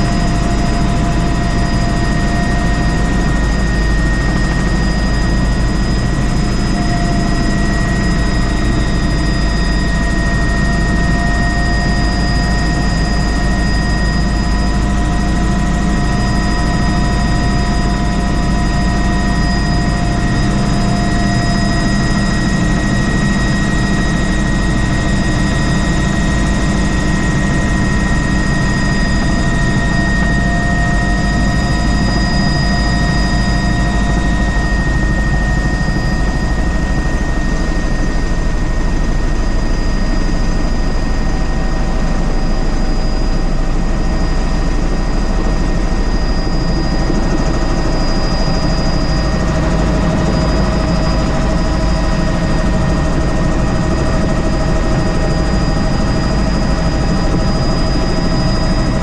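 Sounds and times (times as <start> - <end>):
helicopter rumble: 0.0 - 59.0
high engine whine: 0.0 - 59.0.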